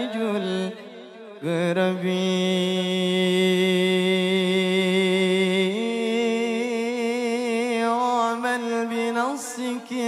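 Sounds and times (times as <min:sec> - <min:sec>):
man singing devotional chant: 0:00.0 - 0:10.0.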